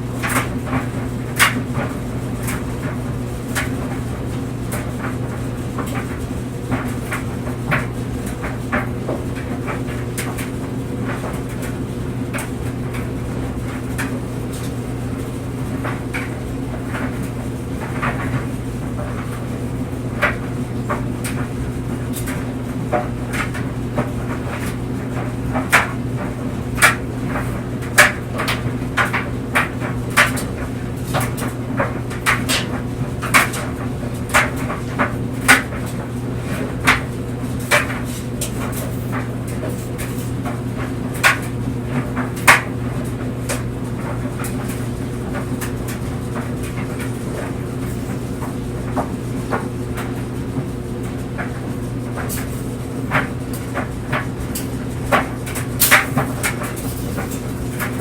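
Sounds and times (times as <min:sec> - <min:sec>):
clothes dryer humming: 0:00.0 - 0:58.0.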